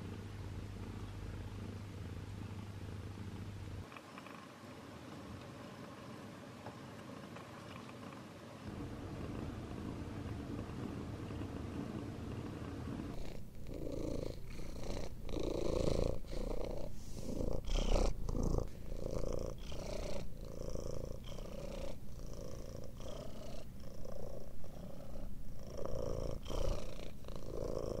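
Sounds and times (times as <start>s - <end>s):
cat purring: 0.0s - 5.4s, 7.2s - 28.0s.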